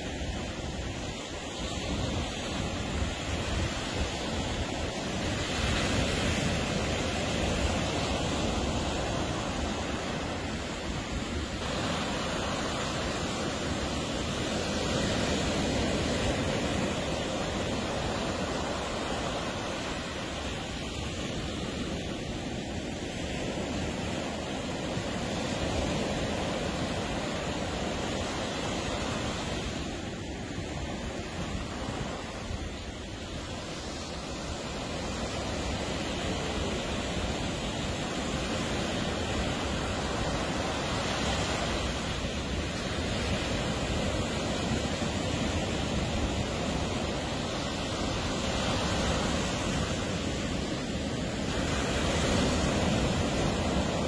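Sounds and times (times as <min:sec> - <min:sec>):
ocean waves washing onto beach: 0:00.0 - 0:54.0
wind on microphone: 0:00.0 - 0:54.0.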